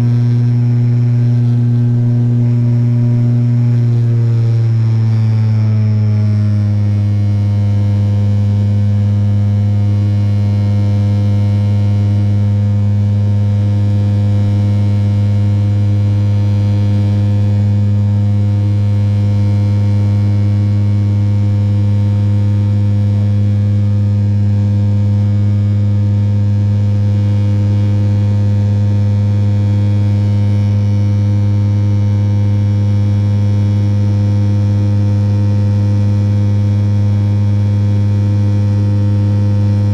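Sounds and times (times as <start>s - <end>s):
propeller engine droning: 0.0s - 39.9s.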